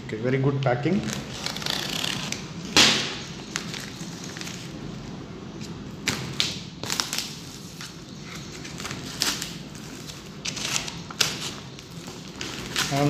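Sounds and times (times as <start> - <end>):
wrapping crackling and rustling: 1.0 - 13.0.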